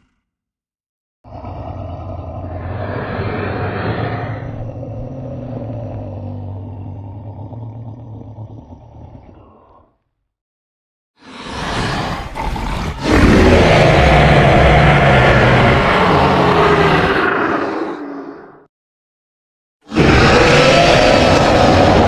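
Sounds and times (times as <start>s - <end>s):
low monster call: 1.2s - 10.0s, 11.2s - 18.7s, 19.8s - 22.0s.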